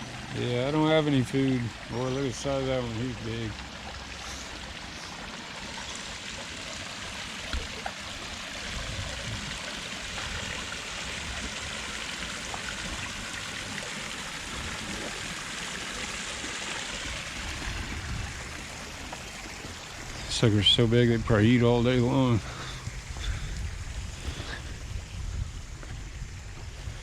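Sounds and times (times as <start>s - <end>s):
running water splashing: 0.0s - 27.0s.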